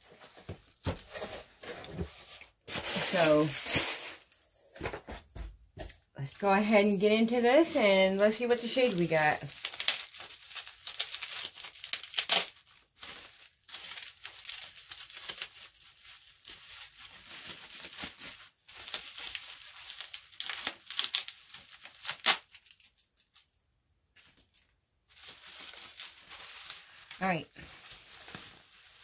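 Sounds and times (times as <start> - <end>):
plastic packaging crinkling and tearing: 0.0 - 4.9, 7.2 - 23.5, 24.2 - 29.0.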